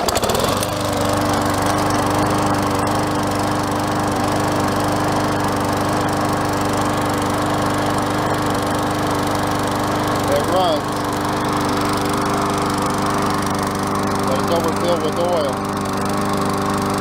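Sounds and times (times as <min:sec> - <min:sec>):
lawn mower engine starting: 0:00.0 - 0:17.0.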